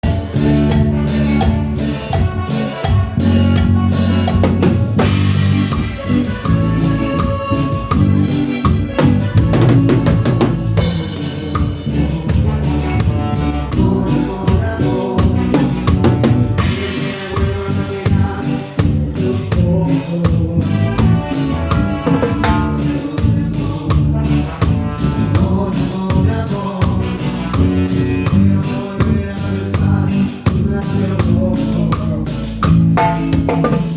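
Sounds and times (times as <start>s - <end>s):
drum kit beat: 0.0s - 33.9s
instrumental music: 0.0s - 33.9s.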